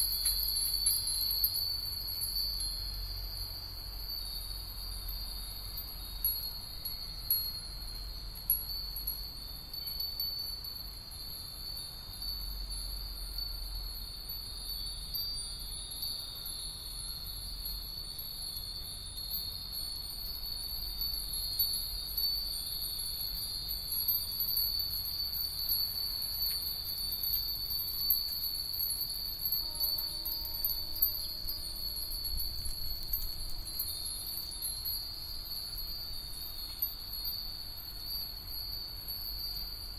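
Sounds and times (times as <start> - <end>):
wind bells tinkling: 0.0 - 39.9.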